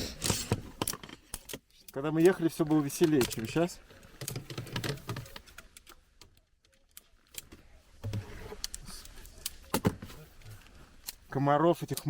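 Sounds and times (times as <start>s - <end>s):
tent poles clicking and rattling: 0.0s - 12.0s.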